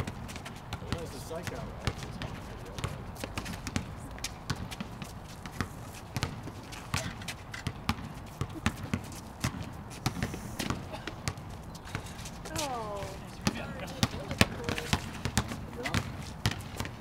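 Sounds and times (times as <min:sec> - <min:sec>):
basketball bouncing on concrete: 0:00.0 - 0:17.0.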